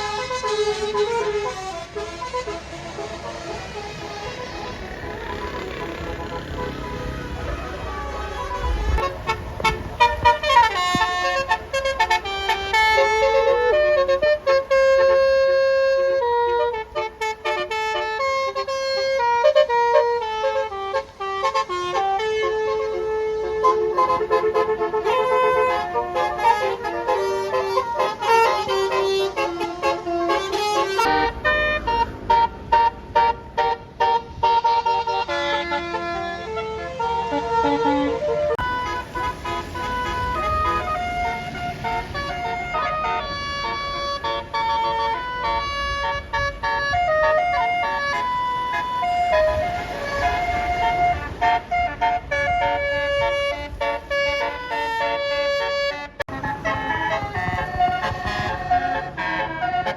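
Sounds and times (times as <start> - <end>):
bus horn playing a tune: 0.0 - 59.9
low road rumble: 0.0 - 59.9.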